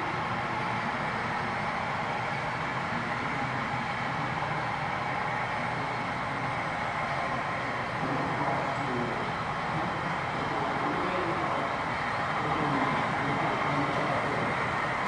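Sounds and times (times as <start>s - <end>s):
model train diesel engine drone: 0.0s - 15.0s.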